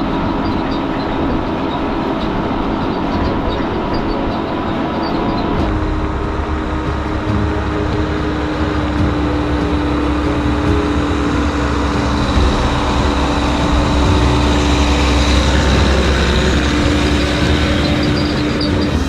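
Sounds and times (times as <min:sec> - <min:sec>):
constant machine whine: 0:00.0 - 0:19.0
heavy machinery engine rumble: 0:00.0 - 0:19.0.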